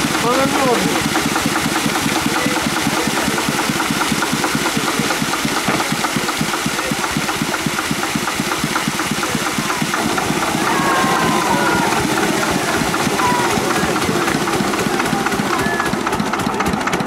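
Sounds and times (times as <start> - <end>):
small tractor engine chugging: 0.0 - 17.0.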